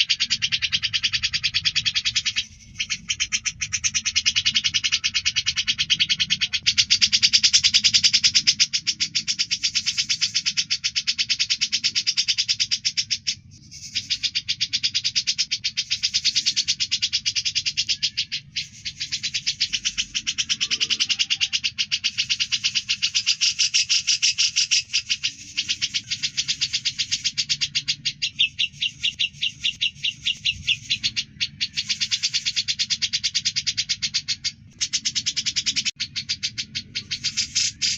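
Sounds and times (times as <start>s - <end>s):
bulbul fast chattering song: 0.0s - 37.9s.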